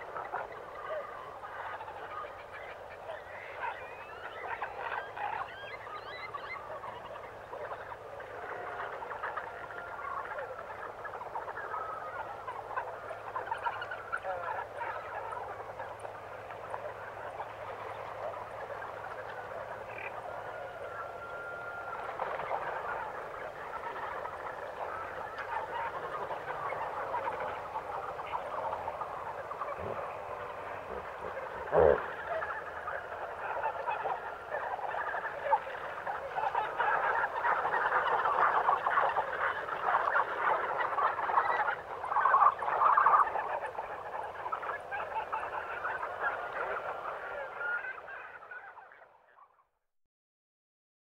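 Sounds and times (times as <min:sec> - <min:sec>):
loud bird call: 0:00.0 - 0:48.7
birds chattering: 0:00.2 - 0:47.3.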